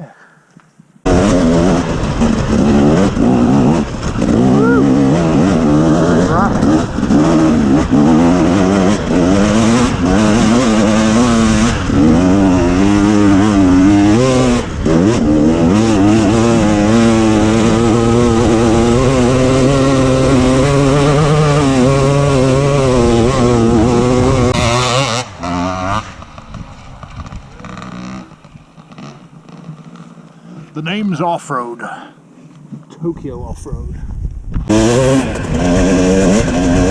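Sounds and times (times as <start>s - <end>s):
two-stroke motorcycle engine revving: 1.0s - 30.2s, 34.6s - 36.9s.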